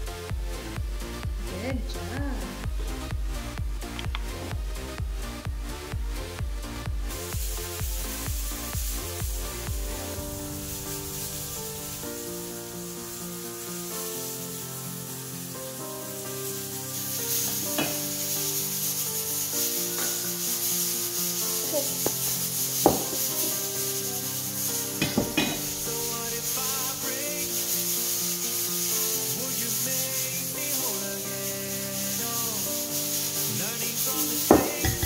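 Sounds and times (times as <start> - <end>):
soft background music: 0.0 - 35.0.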